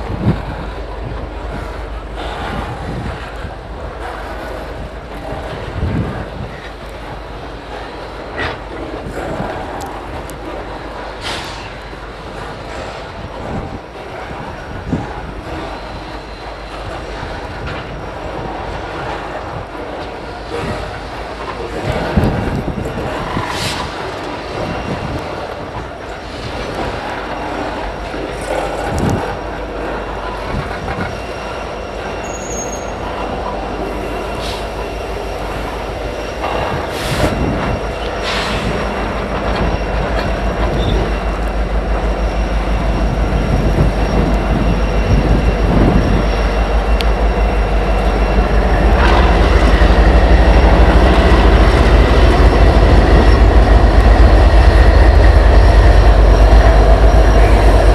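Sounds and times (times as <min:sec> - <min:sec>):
diesel locomotive rumble: 0:00.0 - 0:57.9
train wheels squealing on rails: 0:00.0 - 0:57.9.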